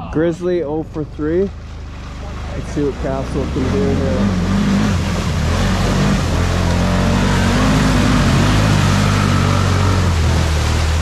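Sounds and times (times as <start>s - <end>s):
atv engine running: 0.2s - 11.0s.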